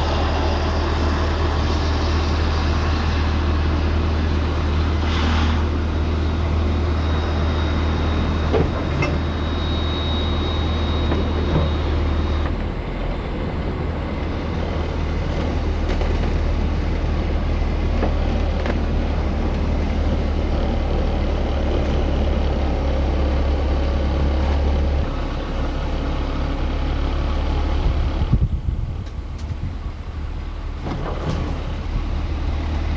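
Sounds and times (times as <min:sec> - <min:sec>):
car engine and road drone: 0:00.0 - 0:32.9.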